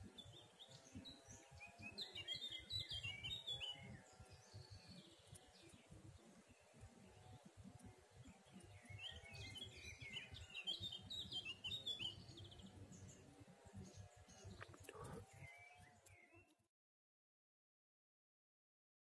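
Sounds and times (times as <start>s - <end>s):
birds chirping: 0.1s - 16.5s.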